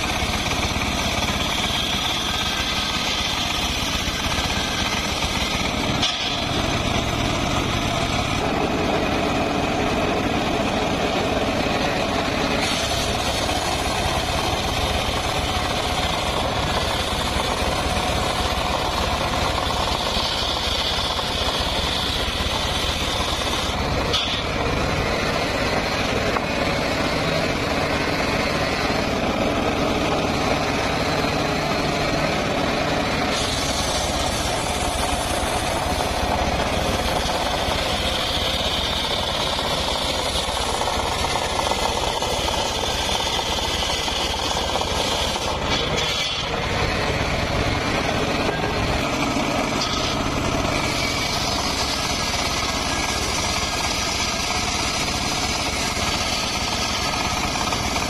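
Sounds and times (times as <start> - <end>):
engine drone: 0.0 - 58.0
saw blade hissing through wood: 0.0 - 58.0.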